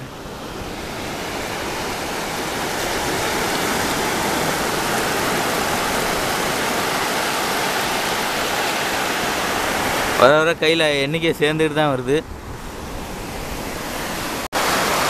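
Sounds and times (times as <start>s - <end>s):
waves rushing over wet sand: 0.0s - 15.0s.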